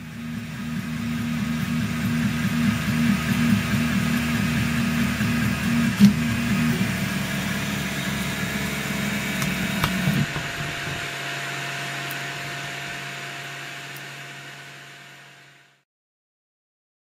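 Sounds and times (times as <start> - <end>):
stepper motors whining: 0.0 - 15.7
steady low hum: 0.0 - 15.8.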